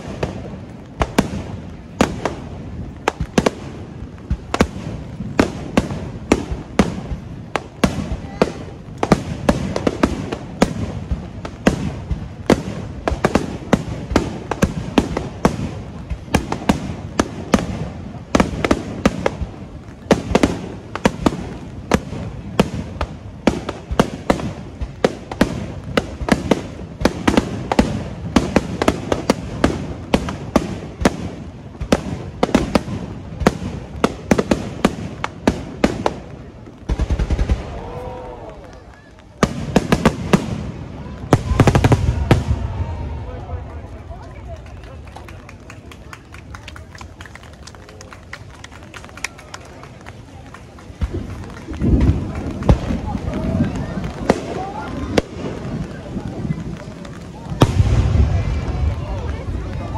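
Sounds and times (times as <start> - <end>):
firework bangs: 0.0 - 59.9
heavy rain hissing: 0.0 - 59.9.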